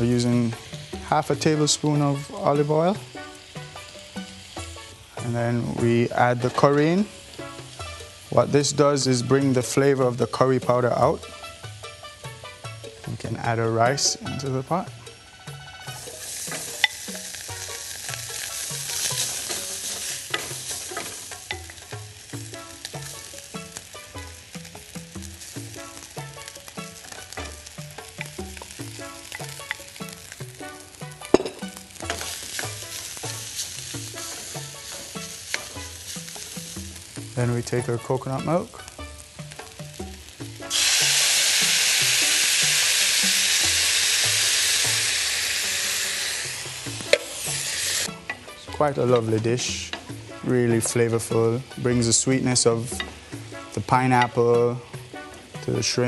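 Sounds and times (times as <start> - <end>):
rice sizzling in hot oil: 0.0 - 56.0.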